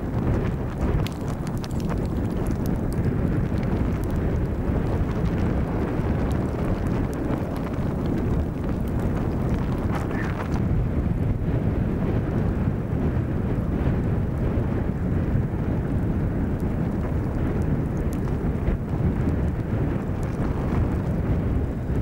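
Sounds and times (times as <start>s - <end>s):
faint crackles: 0.0s - 10.8s, 11.4s - 22.0s
wind rumble on microphone: 0.0s - 22.0s.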